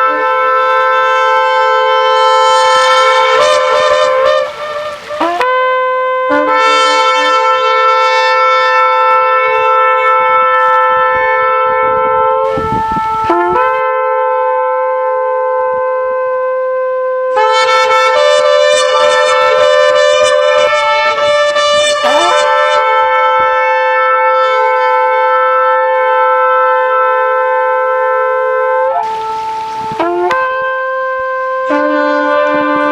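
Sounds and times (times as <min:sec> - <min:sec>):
ram's-horn trumpet blasts: 0:00.0 - 0:32.9.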